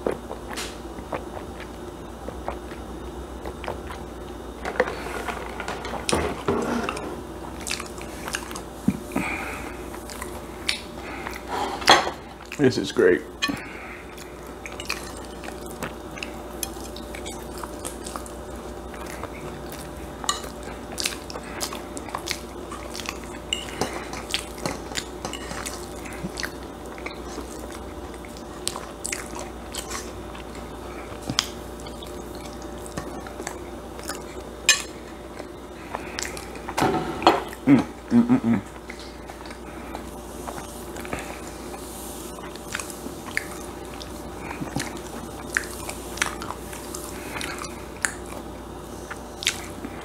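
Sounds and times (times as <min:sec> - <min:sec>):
chewing and mouth sounds: 0:00.0 - 0:05.1, 0:07.5 - 0:11.5, 0:12.3 - 0:12.7, 0:13.4 - 0:36.8, 0:37.4 - 0:50.0
faint steady hum: 0:00.0 - 0:50.0.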